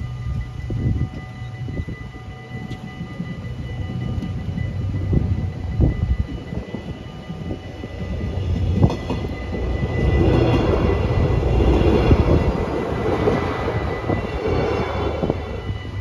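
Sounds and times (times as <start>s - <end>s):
diesel railcar passing: 0.0s - 16.0s.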